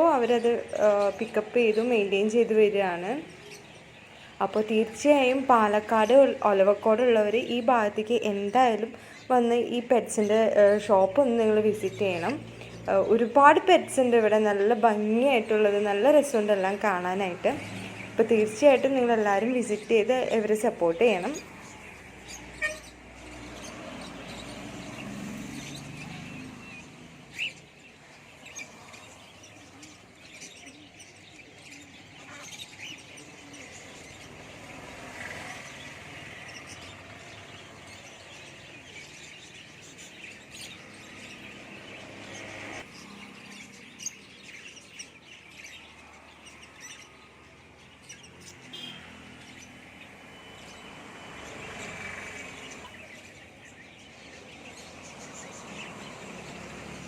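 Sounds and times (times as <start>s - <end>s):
small birds chirping and tweeting: 0.0s - 57.0s.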